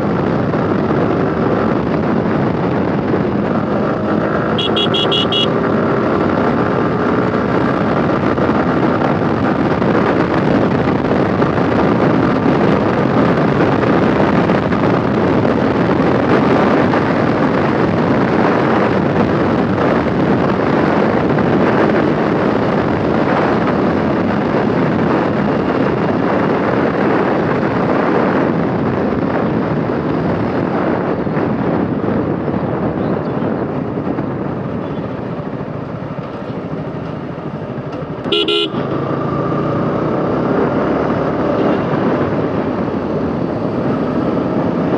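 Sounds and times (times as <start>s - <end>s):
motorcycle engine: 0.0s - 44.9s
wind rushing over microphone: 0.0s - 44.9s.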